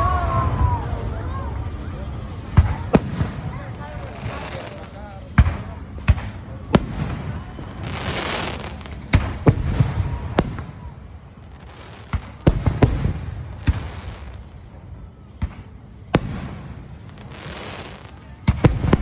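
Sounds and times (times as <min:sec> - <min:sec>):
fireworks bangs: 0:00.0 - 0:19.0
rushing crackling fireworks: 0:00.0 - 0:19.0.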